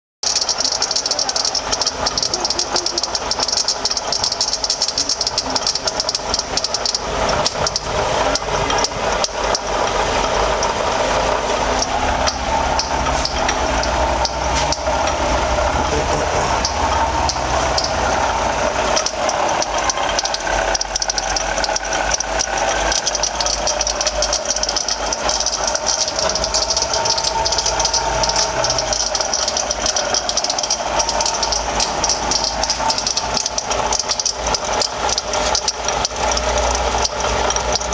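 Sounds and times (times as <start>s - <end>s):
car engine running: 0.2s - 37.9s
water pump rattle and whine: 0.2s - 37.9s.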